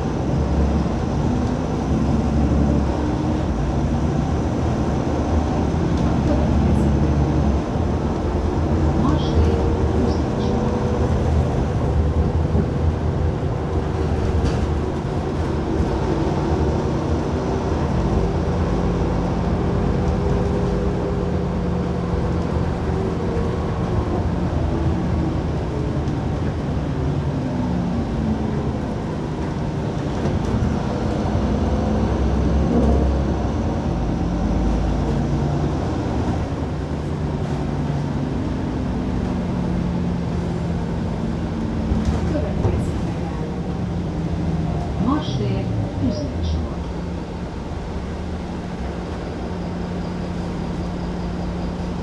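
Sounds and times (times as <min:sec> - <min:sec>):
bus engine: 0:00.0 - 0:52.0
road noise: 0:00.0 - 0:52.0.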